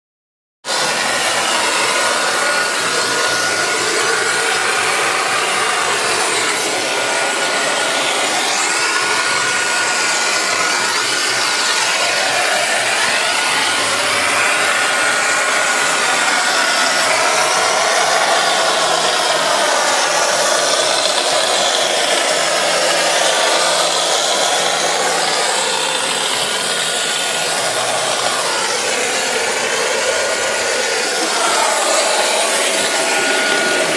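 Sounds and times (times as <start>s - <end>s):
spray gun air rush: 0.7s - 33.9s
thin steady whine: 0.8s - 33.9s.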